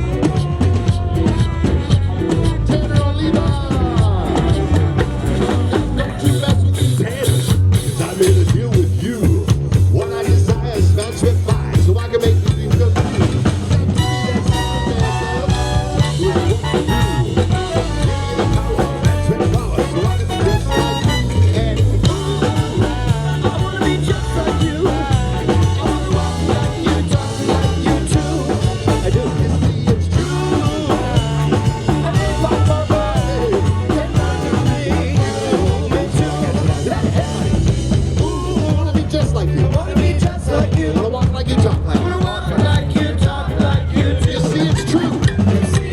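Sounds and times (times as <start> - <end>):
drum kit beat: 0.0 - 45.9
live band playing upbeat tune: 0.0 - 45.9.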